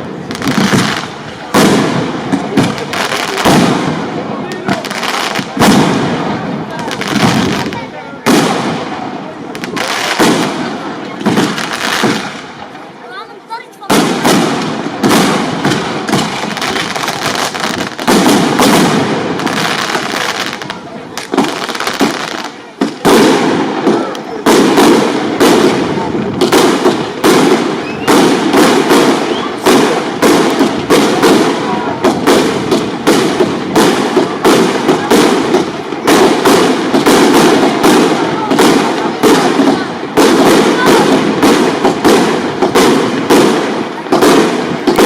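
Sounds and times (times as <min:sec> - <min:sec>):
fireworks hissing crackle: 0:00.0 - 0:45.0
fireworks sharp bangs: 0:00.0 - 0:45.0.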